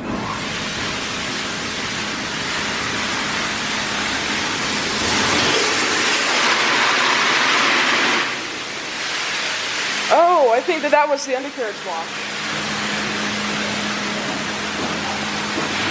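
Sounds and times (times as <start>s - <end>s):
high-pressure water jets spraying: 0.0s - 15.9s.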